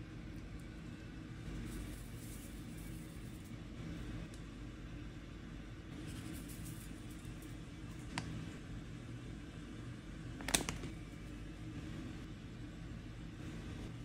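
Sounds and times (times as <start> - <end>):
kitchen hum: 0.0 - 14.0.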